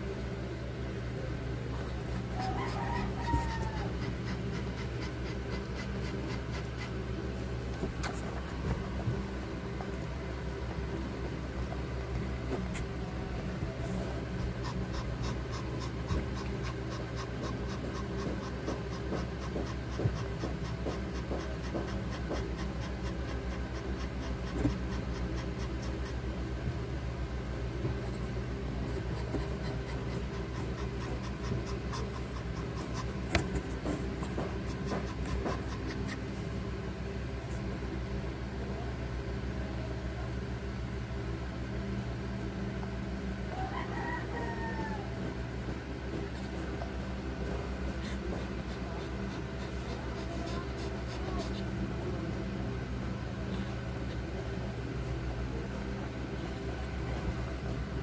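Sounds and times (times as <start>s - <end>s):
steady low hum: 0.0s - 58.0s
dog panting: 1.7s - 26.9s, 27.7s - 37.9s, 45.1s - 58.0s.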